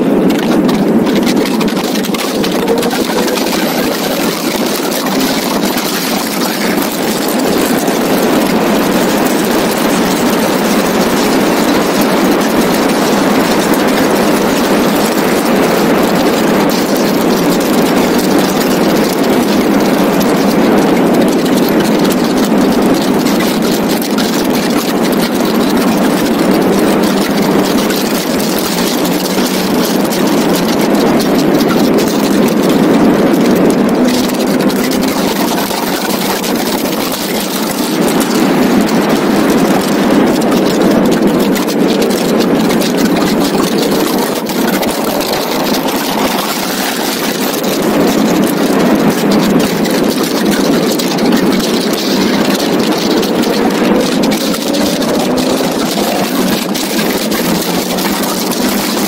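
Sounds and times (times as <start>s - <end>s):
car engine running at speed: 0.0s - 59.0s
wind rushing on microphone: 0.0s - 59.0s.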